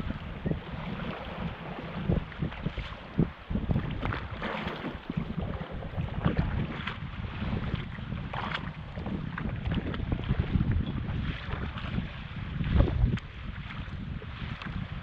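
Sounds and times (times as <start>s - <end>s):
water splashing around kayak: 0.0s - 15.0s
wind buffeting microphone: 0.0s - 15.0s.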